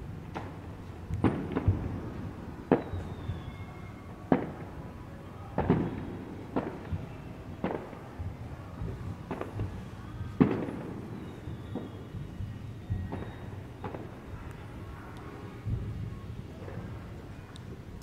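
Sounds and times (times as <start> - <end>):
firework bangs: 0.0 - 18.0.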